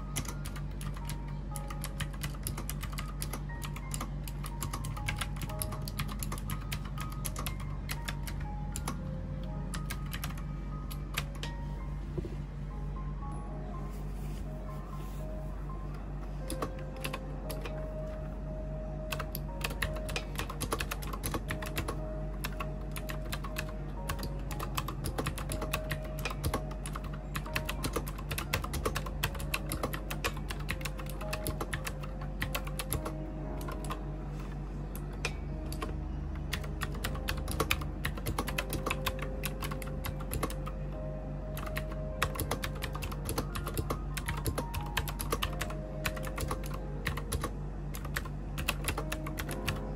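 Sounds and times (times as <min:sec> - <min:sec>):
soft background music: 0:00.0 - 0:49.9.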